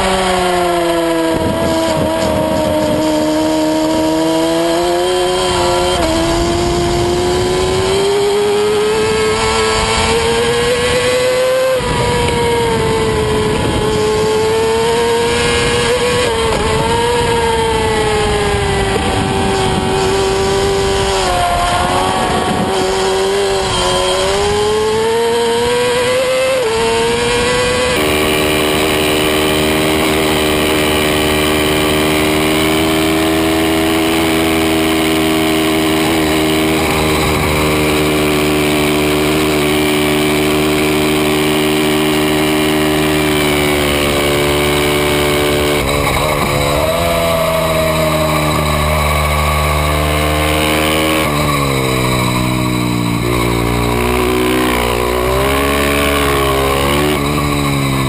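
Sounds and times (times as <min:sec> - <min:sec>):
sportbike engine running hard: 0:00.0 - 0:58.0.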